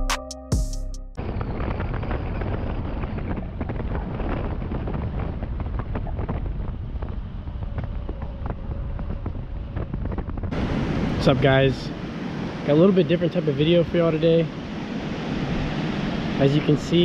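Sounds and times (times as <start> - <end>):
wind buffeting microphone: 1.2 - 17.0.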